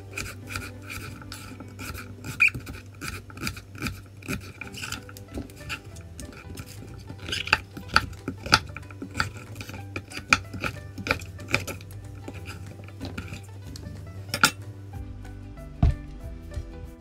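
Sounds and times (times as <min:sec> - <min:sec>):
knife slicing on cutting board: 0:00.0 - 0:14.6.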